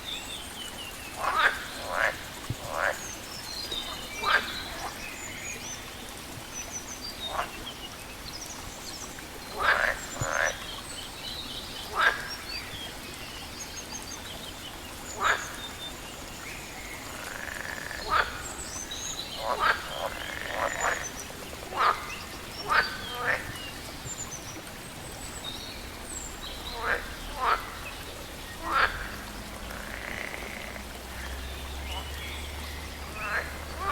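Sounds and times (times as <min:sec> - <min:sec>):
frogs croaking: 0:00.0 - 0:33.9.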